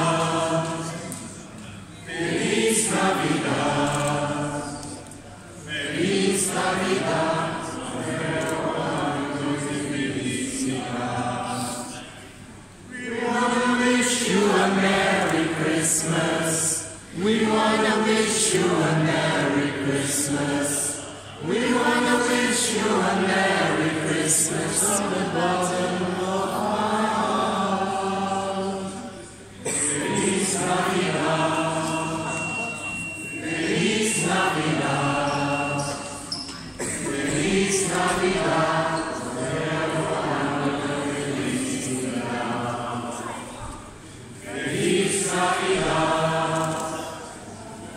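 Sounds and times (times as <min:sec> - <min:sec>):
choir singing unaccompanied: 0:00.0 - 0:47.9.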